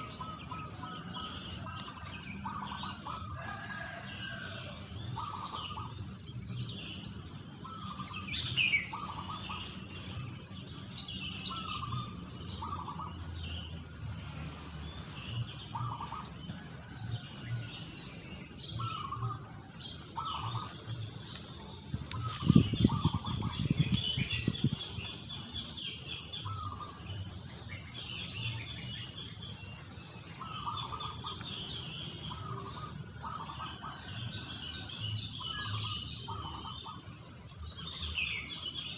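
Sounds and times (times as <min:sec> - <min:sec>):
bird chirps and trill: 0:00.0 - 0:38.9
birds calling: 0:00.0 - 0:38.9.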